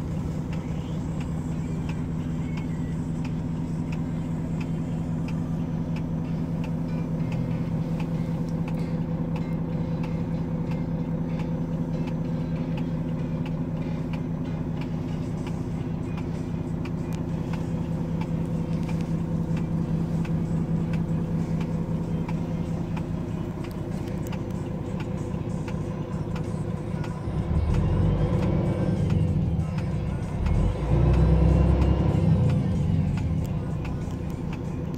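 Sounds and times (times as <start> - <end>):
truck diesel engine idling: 0.0 - 34.9
truck engine revving: 4.0 - 34.9.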